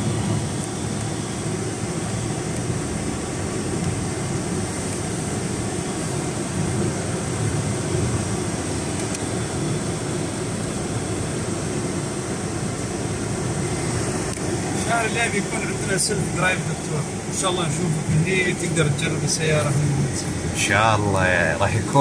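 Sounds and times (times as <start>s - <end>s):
car engine humming: 0.0s - 22.0s
tyre and road rumble: 0.0s - 22.0s.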